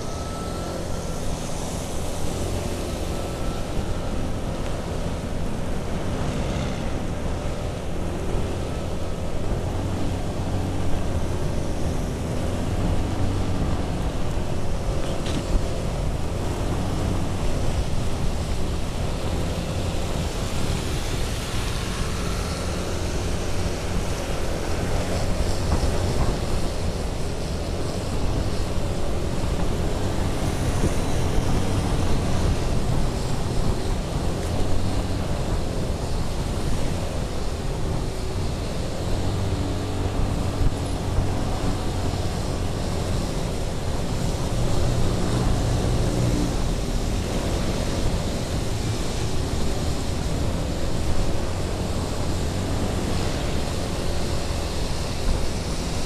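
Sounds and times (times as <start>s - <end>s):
tyre noise on wet road: 0.0s - 56.0s
wind rushing over microphone: 0.0s - 56.0s.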